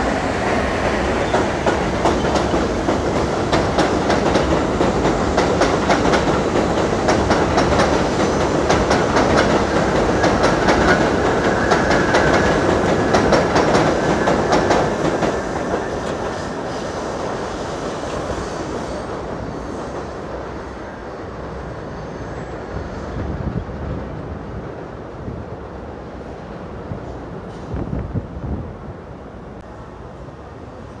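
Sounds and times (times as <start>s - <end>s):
subway train clickety-clack: 0.0s - 31.0s.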